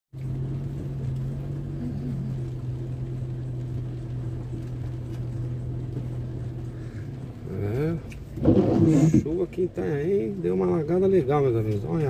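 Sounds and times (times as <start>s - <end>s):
car engine low drone: 0.1s - 12.0s.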